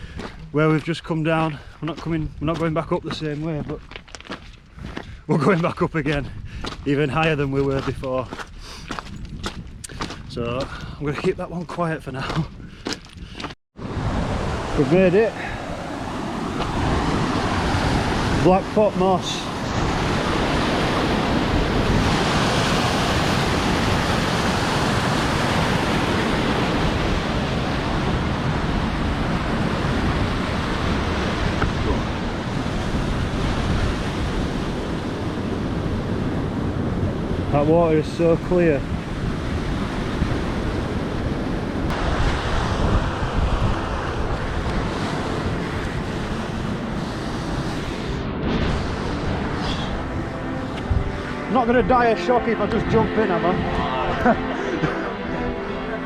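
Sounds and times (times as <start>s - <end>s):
wind buffeting microphone: 1.3s - 51.5s.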